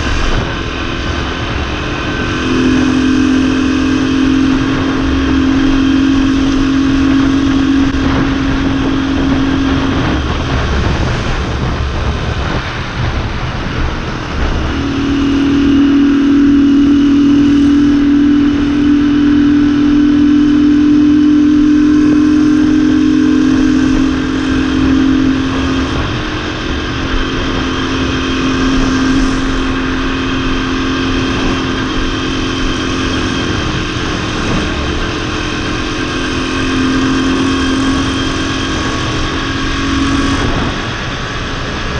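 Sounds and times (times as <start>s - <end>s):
motorbike engine running: 0.0s - 41.9s.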